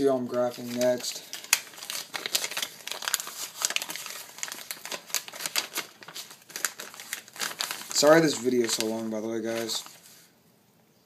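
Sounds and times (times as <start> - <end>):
crinkling handling noise: 0.3 - 10.4.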